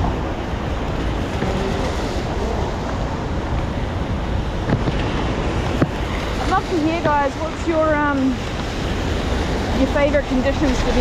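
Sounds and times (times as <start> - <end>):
falling rain: 0.0 - 11.0
traffic on wet pavement: 0.0 - 11.0.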